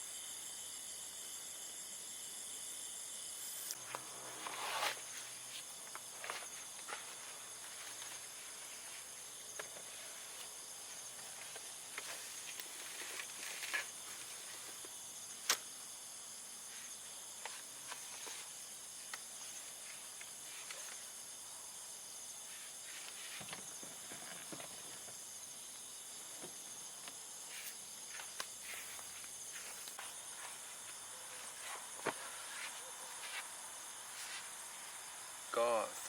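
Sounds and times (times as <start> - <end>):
night insects chorus: 0.0 - 36.0.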